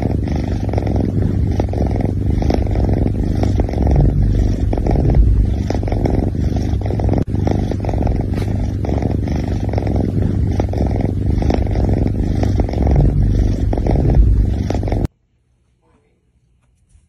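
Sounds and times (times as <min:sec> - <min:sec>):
cat purring: 0:00.0 - 0:15.1.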